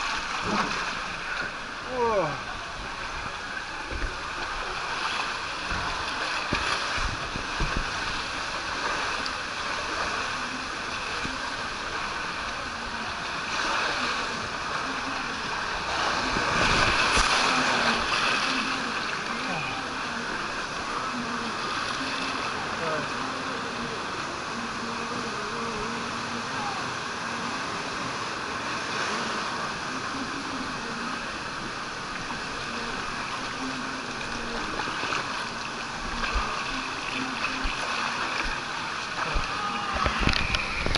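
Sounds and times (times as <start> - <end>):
loud splashing and churning: 0.0 - 40.9
water rushing down slide: 0.0 - 40.9.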